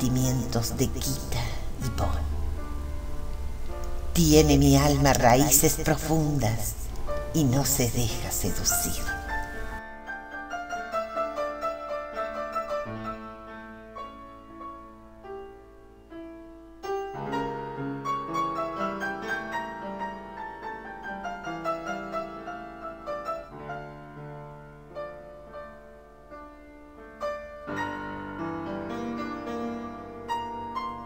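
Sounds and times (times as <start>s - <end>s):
instrumental music with held notes: 0.0s - 5.2s, 6.8s - 31.0s.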